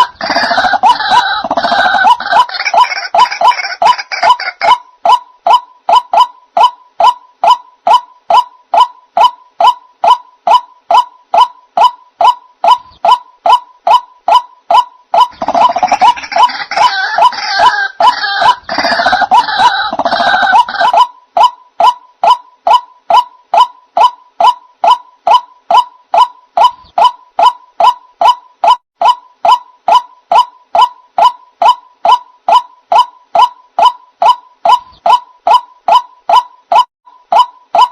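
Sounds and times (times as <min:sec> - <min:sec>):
waterhen calls: 0:00.0 - 0:37.9.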